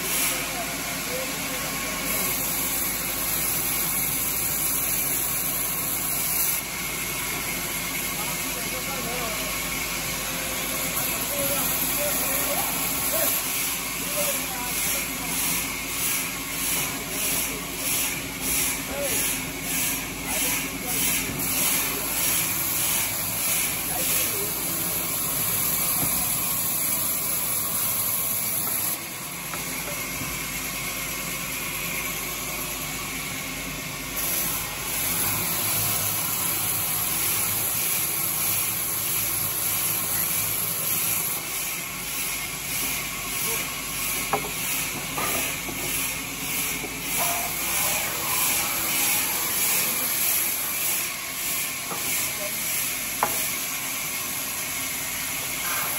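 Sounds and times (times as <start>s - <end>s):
band saw cutting wood: 1.4s - 30.5s, 34.1s - 55.9s.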